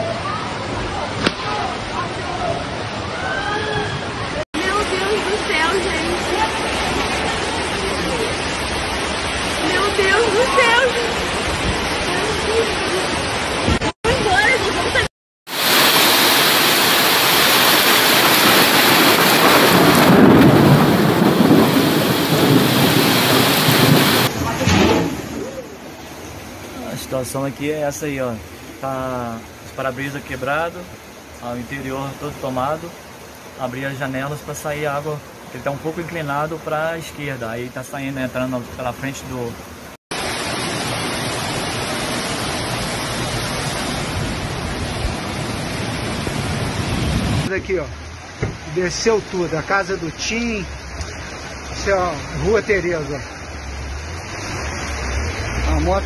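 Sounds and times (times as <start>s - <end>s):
floodwater rushing: 0.0s - 56.0s
heavy rain: 0.0s - 56.0s.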